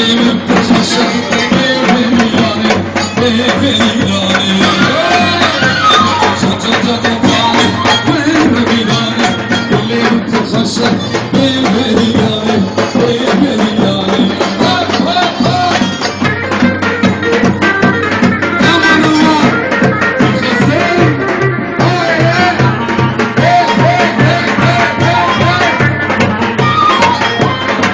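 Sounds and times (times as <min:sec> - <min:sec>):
busy drum beat: 0:00.0 - 0:27.9
folk dance music from a band: 0:00.0 - 0:27.9.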